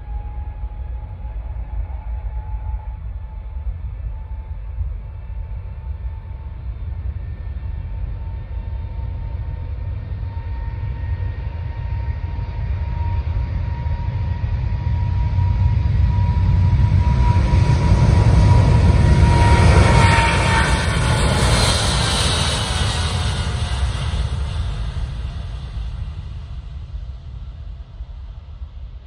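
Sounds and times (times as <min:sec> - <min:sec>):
jet engines at take-off thrust: 0:00.0 - 0:29.0.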